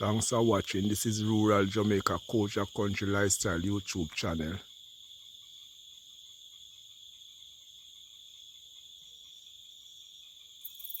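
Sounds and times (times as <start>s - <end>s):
crickets trilling: 0.0s - 11.0s
pulsing insect calls: 0.0s - 11.0s.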